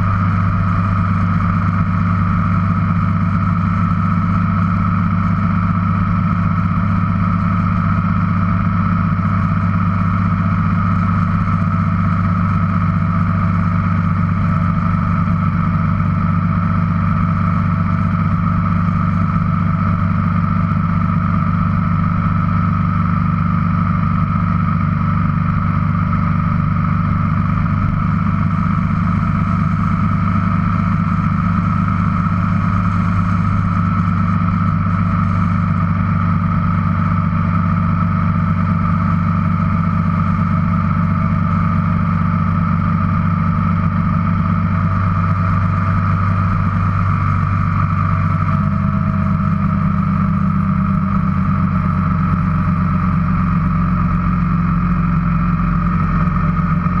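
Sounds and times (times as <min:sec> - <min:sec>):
wind and road noise: 0:00.0 - 0:54.4
motorcycle engine cruising: 0:00.0 - 0:57.0.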